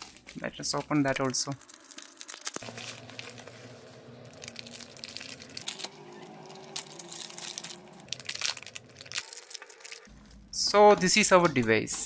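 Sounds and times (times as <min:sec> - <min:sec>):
plastic packaging crinkling: 0:00.0 - 0:10.5.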